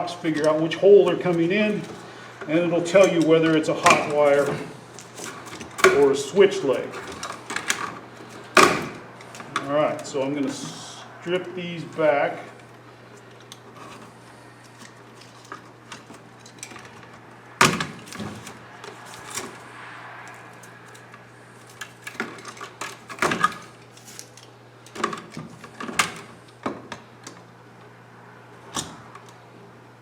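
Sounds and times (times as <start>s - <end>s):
cable sheathing scraping and rustling: 0.0s - 26.6s.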